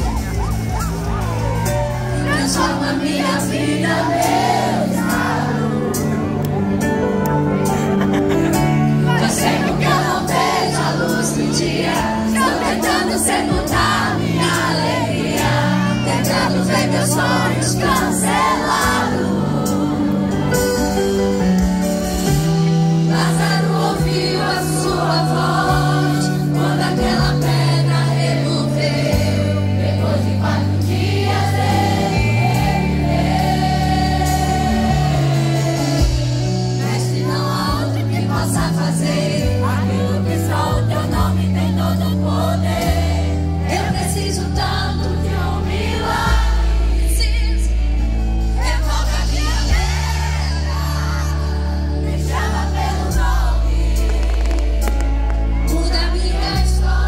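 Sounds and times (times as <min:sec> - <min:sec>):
live gospel band playing: 0:00.0 - 0:57.0
moving bass notes: 0:00.0 - 0:57.0
woman singing lead: 0:00.0 - 0:57.0
many voices singing along: 0:00.9 - 0:06.5, 0:07.7 - 0:21.4, 0:22.3 - 0:57.0.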